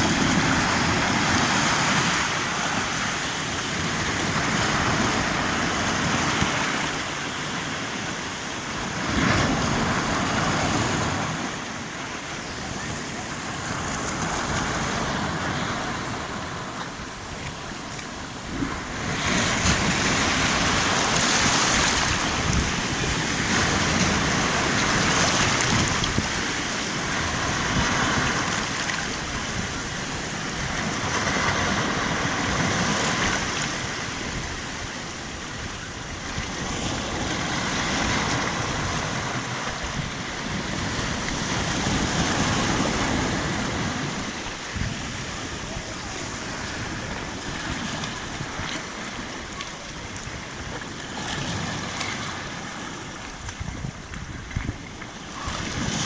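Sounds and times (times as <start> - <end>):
surf breaking on shore: 0.0 - 56.0.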